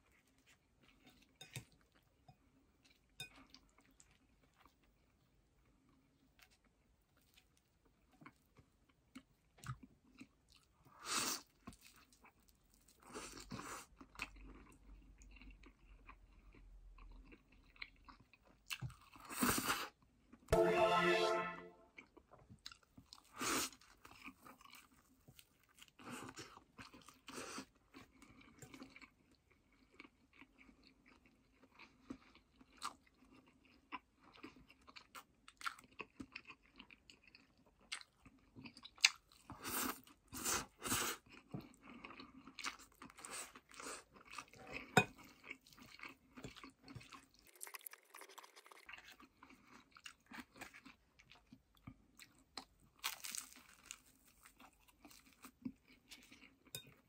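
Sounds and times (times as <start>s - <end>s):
close-up chewing of noodles: 0.0s - 20.3s, 22.3s - 57.0s.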